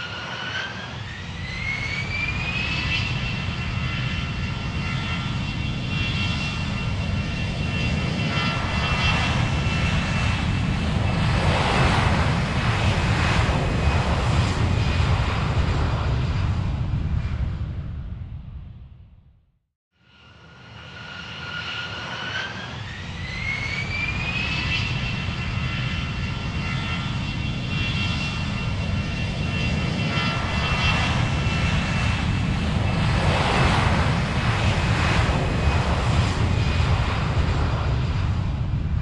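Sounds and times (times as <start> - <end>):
airplane engine whine: 0.0 - 39.0.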